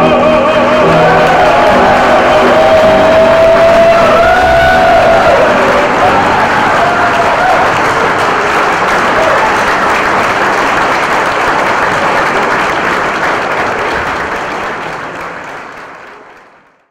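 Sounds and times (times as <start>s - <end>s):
audience applauding: 0.0s - 16.9s.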